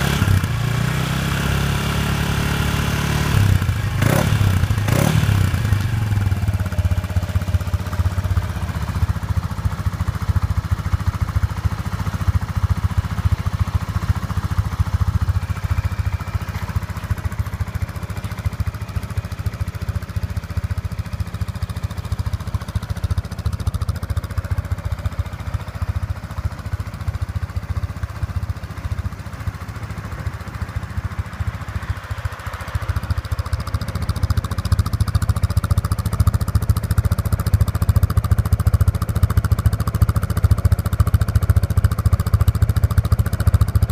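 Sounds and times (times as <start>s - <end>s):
scooter engine idling: 0.0s - 43.9s.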